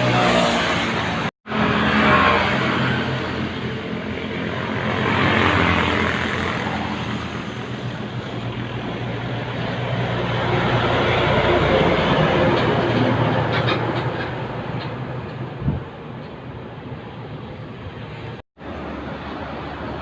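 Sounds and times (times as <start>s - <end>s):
diesel truck engine drone: 0.0s - 20.0s
tyre and road noise: 0.0s - 20.0s.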